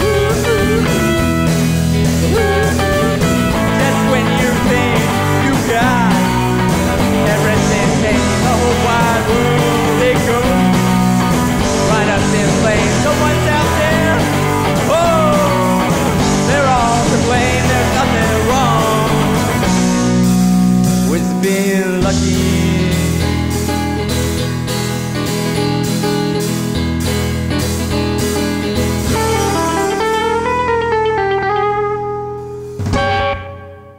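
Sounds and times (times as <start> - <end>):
lead guitar bending notes: 0.0 - 33.9
rock band playing: 0.0 - 33.9.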